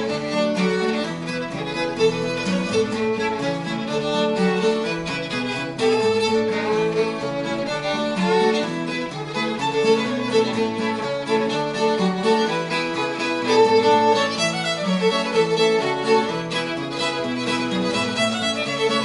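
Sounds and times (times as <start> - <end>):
acoustic guitar accompaniment: 0.0 - 19.0
fast old-time fiddle tune: 0.0 - 19.0.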